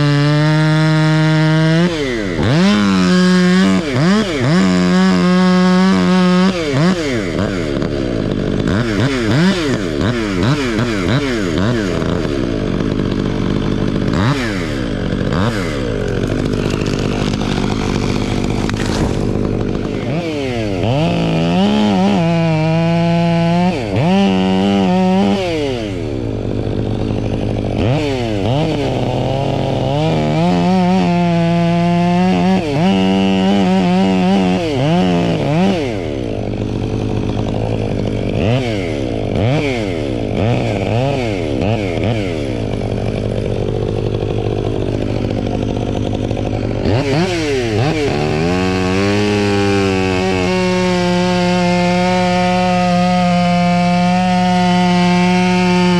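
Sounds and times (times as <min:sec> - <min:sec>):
chainsaw revving and cutting: 0:00.0 - 0:55.9.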